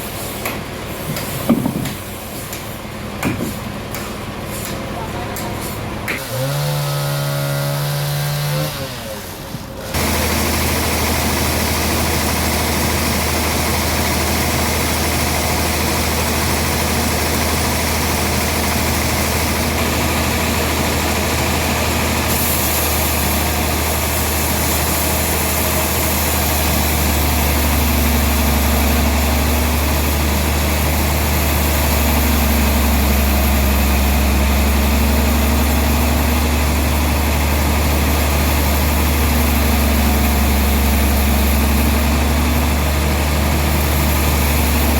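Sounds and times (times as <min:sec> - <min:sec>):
heavy engine running: 0:00.0 - 0:44.9.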